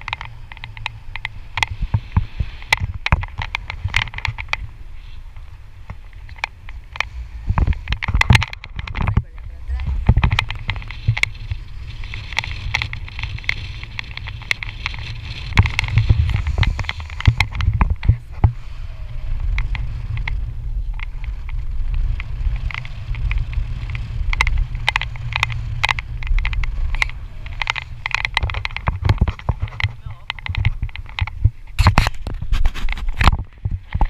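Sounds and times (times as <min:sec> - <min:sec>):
microphone knocks and crackles: 0:00.0 - 0:04.8, 0:05.8 - 0:34.0
wind buffeting microphone: 0:00.0 - 0:34.0.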